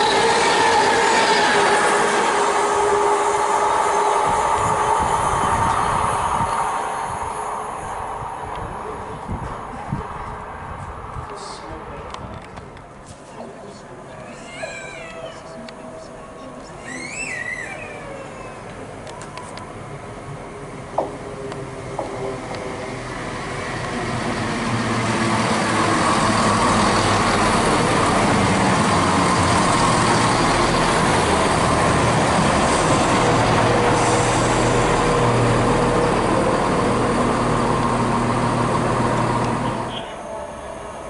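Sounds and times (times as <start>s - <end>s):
train engine hum: 0.0s - 41.0s
train wheel noise: 0.0s - 41.0s.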